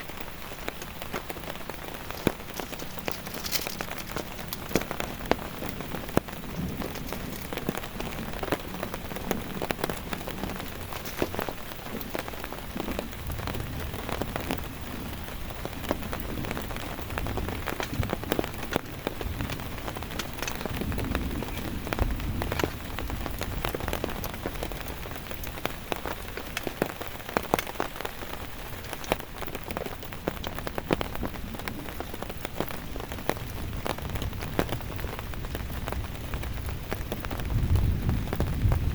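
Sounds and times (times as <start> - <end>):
heavy rain falling: 0.0 - 38.9
raindrops pattering close by: 0.0 - 38.9.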